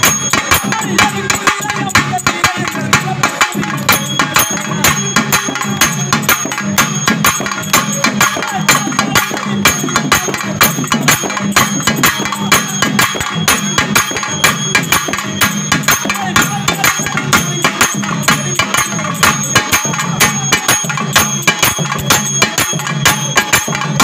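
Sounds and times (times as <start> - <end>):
drum strikes: 0.0 - 24.0
jingling metal percussion: 0.0 - 24.0.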